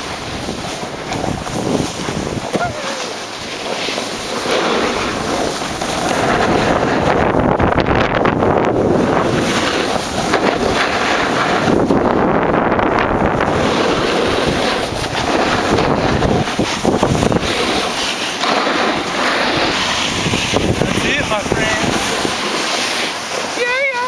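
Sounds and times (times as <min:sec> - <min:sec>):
skis scraping over packed snow: 0:00.0 - 0:24.0
wind buffeting microphone: 0:00.0 - 0:24.0.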